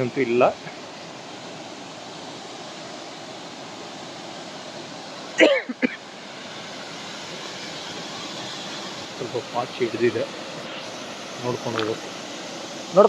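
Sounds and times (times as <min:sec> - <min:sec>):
waterfall and stream rushing: 0:00.0 - 0:13.0.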